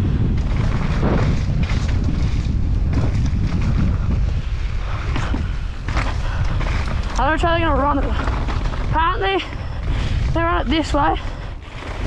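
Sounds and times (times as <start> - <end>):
bike knocks and rattles: 0.0 - 12.0
wind buffeting microphone: 0.0 - 12.0.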